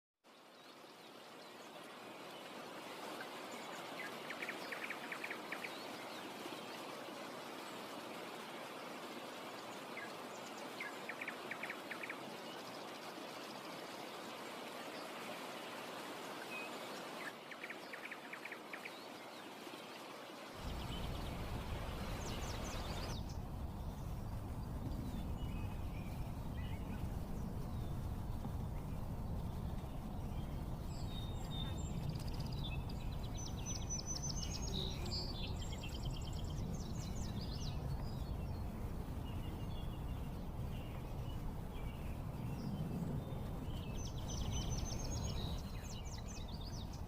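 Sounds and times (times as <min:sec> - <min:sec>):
running water rushing: 0:00.3 - 0:47.0.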